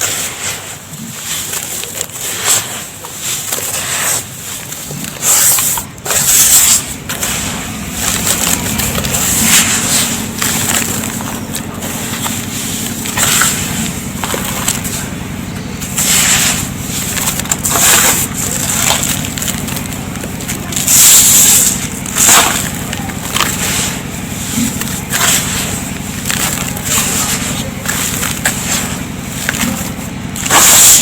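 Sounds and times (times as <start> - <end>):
dry dust poured and mixed: 0.0 - 31.0.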